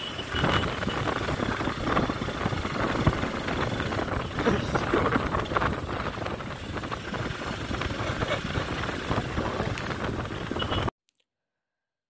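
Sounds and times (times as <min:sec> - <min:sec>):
motorcycle engine running: 0:00.0 - 0:10.9
wind buffeting microphone: 0:00.2 - 0:10.9.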